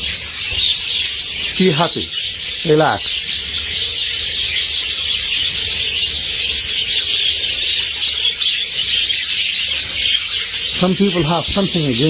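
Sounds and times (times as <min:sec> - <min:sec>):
flock of budgerigars chattering: 0:00.0 - 0:12.0.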